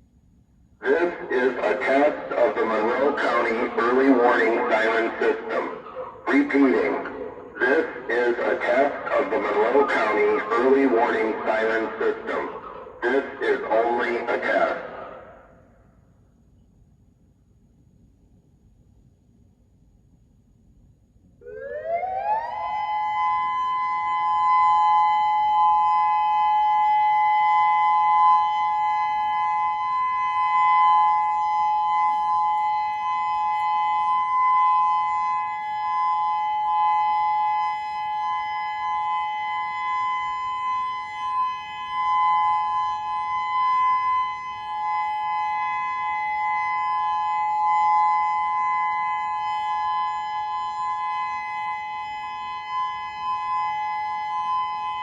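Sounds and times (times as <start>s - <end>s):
electronic warning siren: 0.8s - 16.8s, 21.2s - 55.0s.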